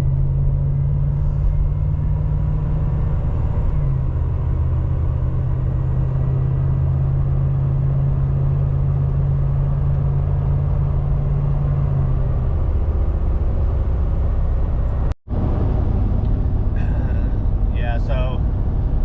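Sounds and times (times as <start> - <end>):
van engine and road noise: 0.0 - 19.0.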